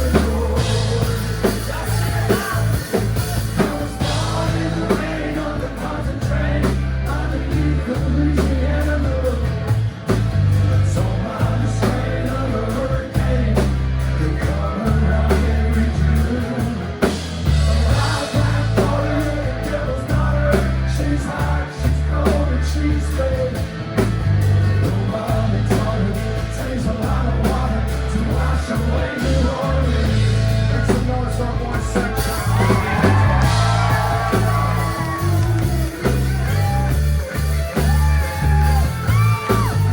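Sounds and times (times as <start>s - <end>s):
heavy bass line: 0.0s - 39.9s
live rock band playing: 0.0s - 39.9s.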